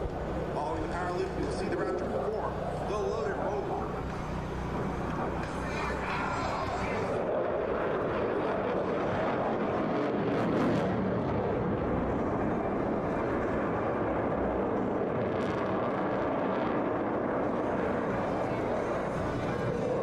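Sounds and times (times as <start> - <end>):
jet flying overhead: 0.0 - 20.0.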